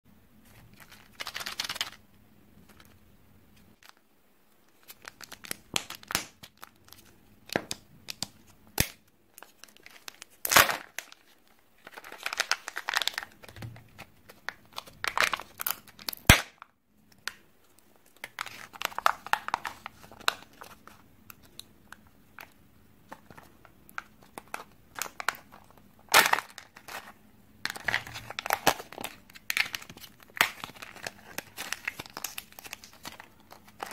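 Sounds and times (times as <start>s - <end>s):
plastic wrapper crinkling and tearing: 0.5s - 2.0s, 4.7s - 16.6s, 17.2s - 33.9s.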